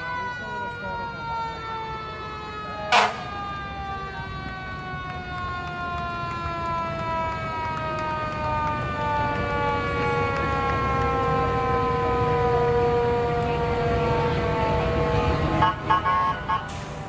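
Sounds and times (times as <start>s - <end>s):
siren wailing: 0.0s - 17.0s
steady siren tone: 0.0s - 17.0s
trucks rumbling: 0.0s - 17.0s.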